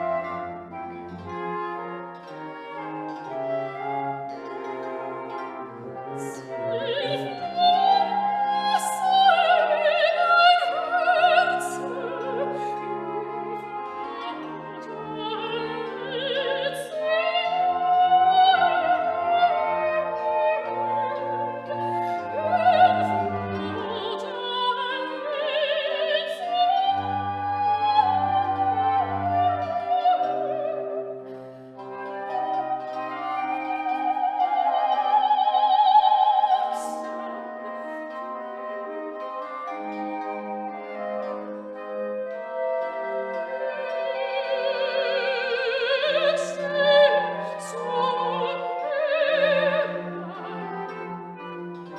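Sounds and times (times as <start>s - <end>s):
orchestral accompaniment: 0.0s - 51.9s
operatic singing with vibrato: 5.9s - 38.7s, 41.7s - 51.9s.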